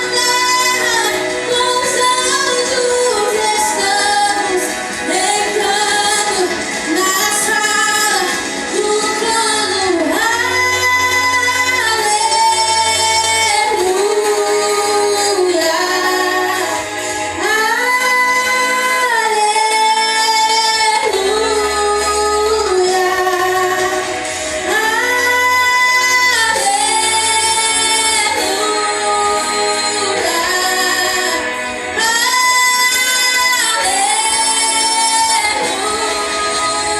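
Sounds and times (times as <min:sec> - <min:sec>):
woman singing worship song: 0:00.0 - 0:36.9.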